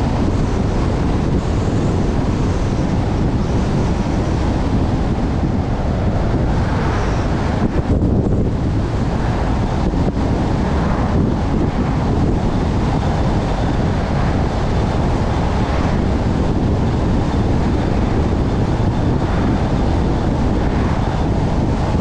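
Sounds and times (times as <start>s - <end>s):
car road and tyre noise: 0.0s - 22.0s
wind rush on microphone: 0.0s - 22.0s.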